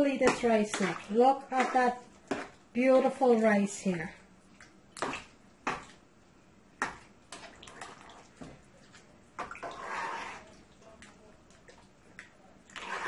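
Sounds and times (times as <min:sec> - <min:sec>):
liquid sloshing: 0:00.0 - 0:06.1, 0:06.8 - 0:13.0.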